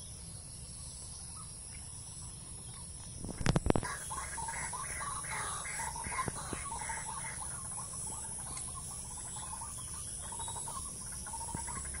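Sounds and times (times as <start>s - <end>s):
birds chattering: 0.0s - 12.0s
faint high-pitched hum: 0.0s - 12.0s.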